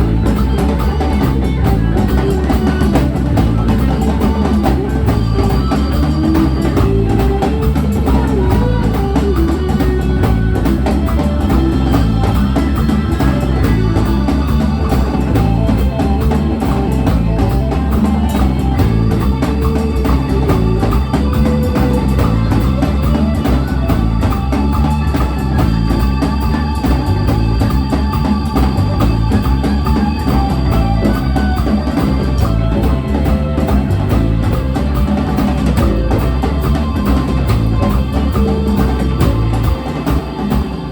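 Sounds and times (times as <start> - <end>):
bass: 0.0 - 40.9
drum kit steady beat: 0.0 - 40.9
guitar: 0.0 - 40.9.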